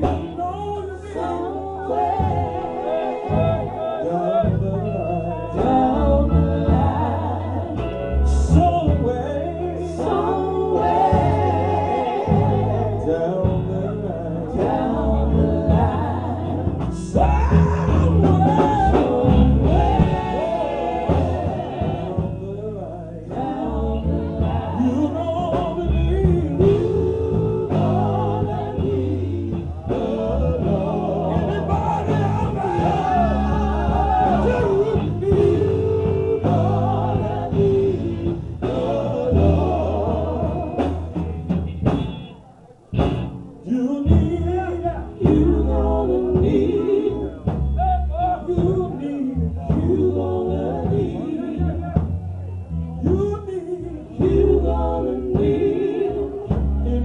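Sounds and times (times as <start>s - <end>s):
instrumental backing: 0.0s - 57.0s
person singing gospel: 0.0s - 57.0s.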